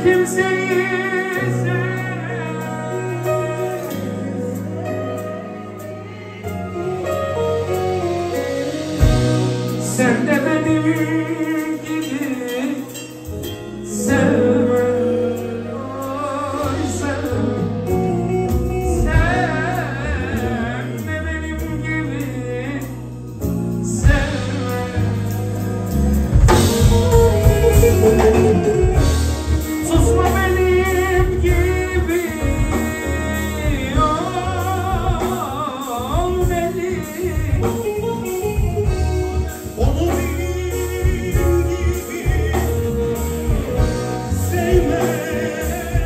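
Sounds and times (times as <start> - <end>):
drums: 0.0 - 46.0
electric guitar: 0.0 - 46.0
keyboard: 0.0 - 46.0
low bass: 0.0 - 46.0
man singing: 0.0 - 46.0.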